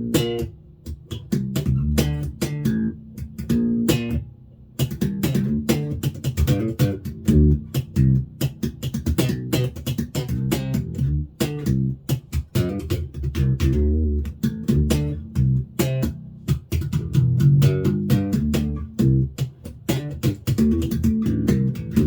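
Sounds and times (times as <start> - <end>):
plucked bass notes: 0.0 - 22.0.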